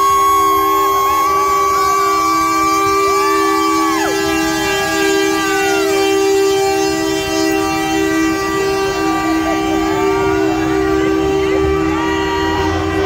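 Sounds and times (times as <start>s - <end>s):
truck air horns two-note chord: 0.4s - 13.0s.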